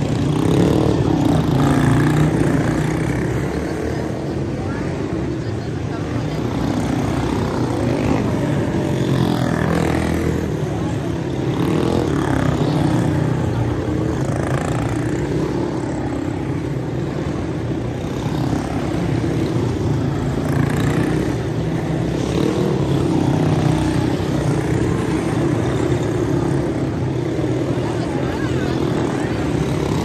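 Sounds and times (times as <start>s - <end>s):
small race car engines buzzing: 0.0s - 30.0s.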